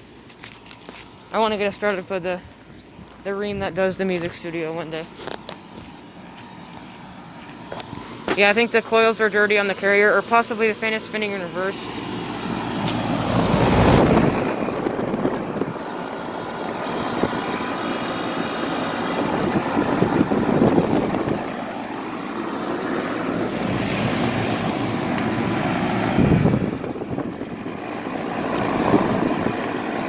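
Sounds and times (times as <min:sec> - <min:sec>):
air conditioner fan and compressor: 0:00.0 - 0:30.0.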